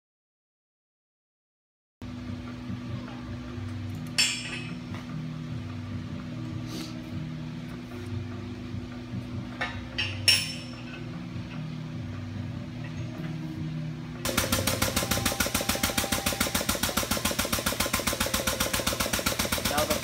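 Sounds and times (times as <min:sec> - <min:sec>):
faint background music: 0:02.0 - 0:20.0.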